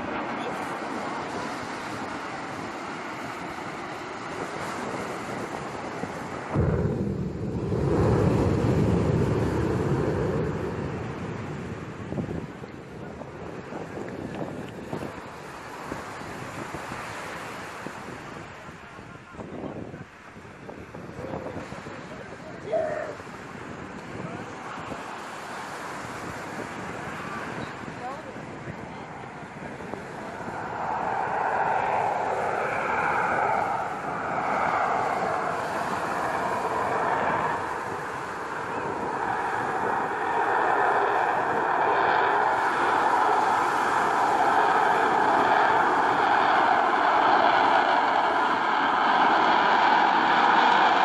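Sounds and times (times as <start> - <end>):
jet engine roaring overhead: 0.0 - 51.0
surf on beach: 0.0 - 51.0
wind buffeting microphone: 0.0 - 51.0.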